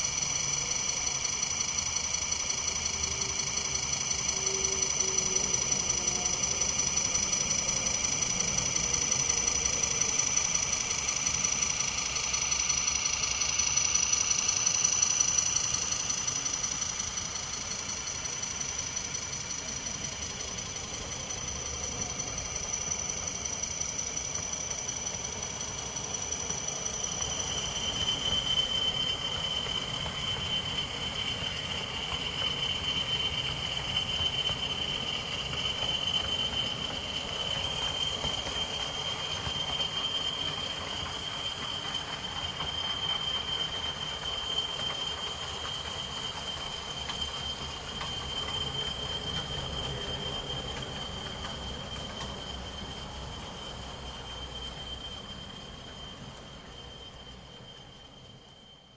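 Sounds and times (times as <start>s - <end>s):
high-pitched motor whine: 0.0s - 58.9s
model train wheels on rails: 0.0s - 58.9s.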